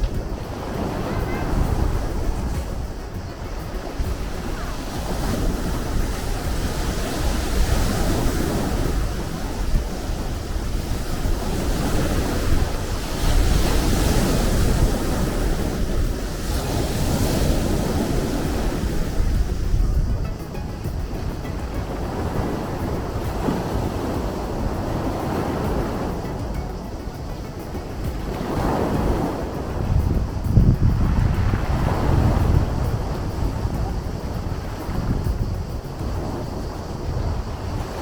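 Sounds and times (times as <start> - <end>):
sea waves breaking: 0.0 - 38.0
wind on microphone: 0.0 - 38.0.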